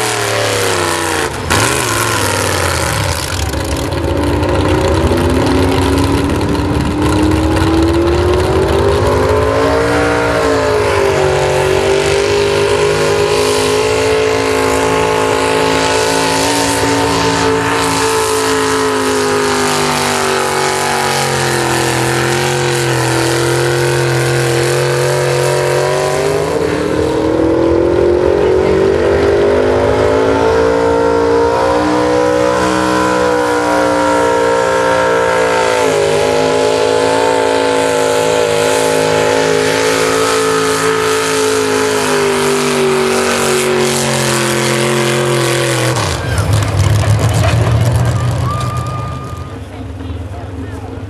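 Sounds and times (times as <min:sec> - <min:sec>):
truck engine revving hard: 0:00.0 - 0:51.0.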